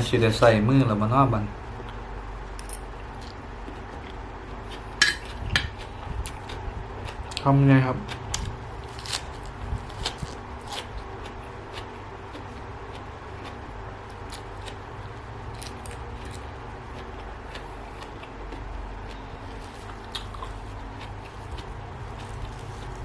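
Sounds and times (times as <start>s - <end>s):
steady background hum: 0.0s - 23.0s
person chewing food: 2.9s - 23.0s.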